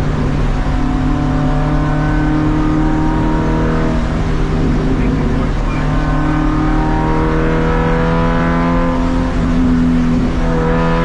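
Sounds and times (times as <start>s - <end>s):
race car engine running hard: 0.0s - 11.0s.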